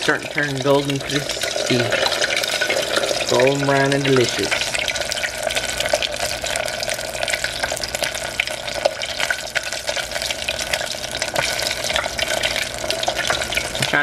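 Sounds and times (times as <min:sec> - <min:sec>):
hot oil sizzling: 0:00.0 - 0:14.0
oil crackles and pops: 0:00.0 - 0:14.0.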